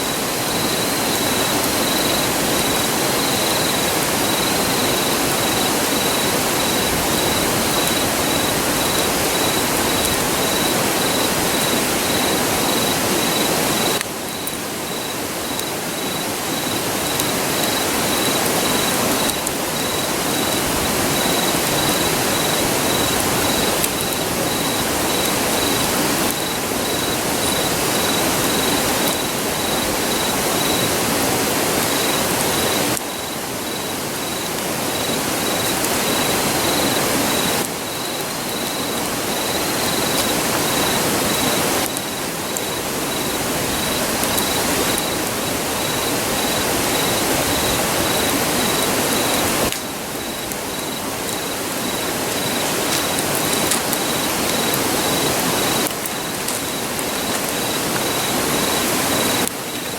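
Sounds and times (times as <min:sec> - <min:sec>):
insect chirping: 0:00.0 - 0:59.9
river rushing: 0:00.0 - 0:59.9
wood fire crackling: 0:00.0 - 0:59.9.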